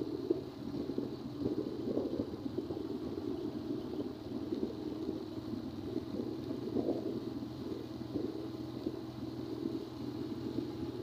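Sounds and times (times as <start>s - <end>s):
faint hum tones: 0.0s - 11.0s
vehicle rumbling along road: 0.0s - 11.0s.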